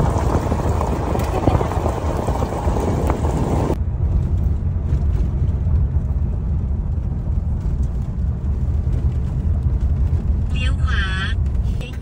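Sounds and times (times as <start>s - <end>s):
car engine rumble inside cabin: 0.0s - 12.0s
road and wind noise hiss: 0.0s - 12.0s.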